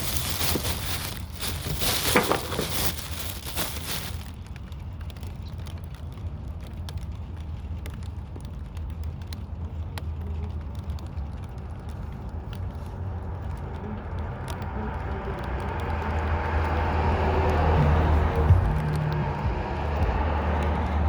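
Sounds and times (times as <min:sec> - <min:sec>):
road vehicle approaching: 0:00.0 - 0:21.0.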